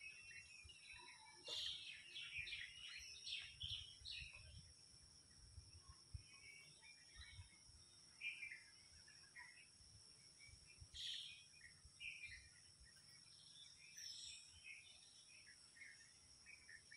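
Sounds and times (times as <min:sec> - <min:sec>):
bird chirps: 0:00.0 - 0:16.9.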